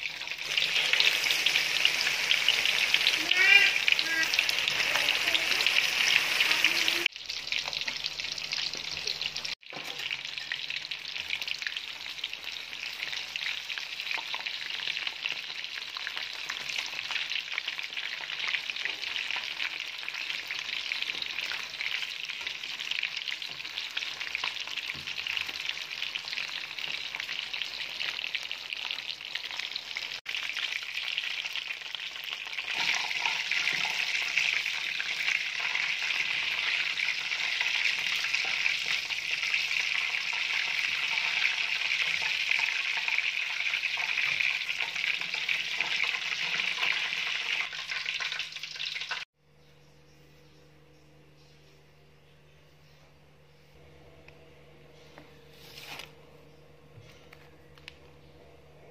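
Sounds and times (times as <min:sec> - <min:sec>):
chicken deep-frying in oil: 0:00.0 - 0:49.3.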